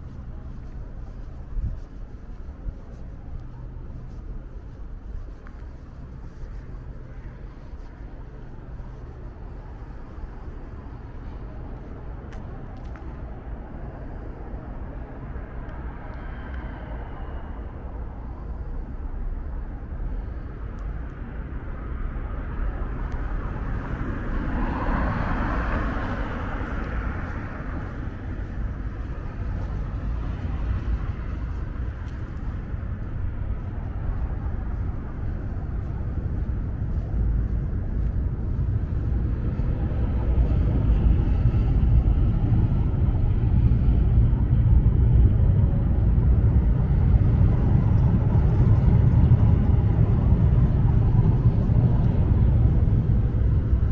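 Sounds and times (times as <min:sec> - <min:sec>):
low city rumble: 0:00.0 - 0:53.9.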